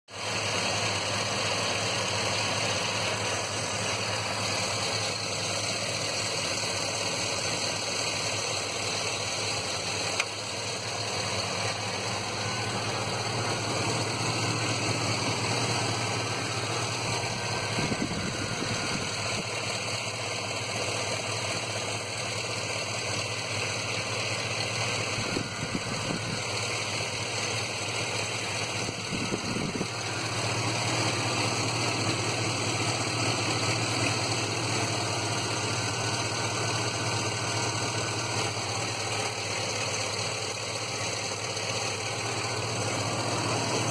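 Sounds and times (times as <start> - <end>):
car engine idling roughly: 0.1 - 43.9.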